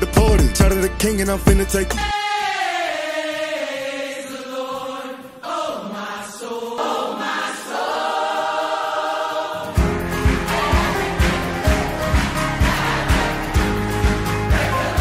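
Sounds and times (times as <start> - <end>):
long-held sung vocals: 1.9 - 15.0.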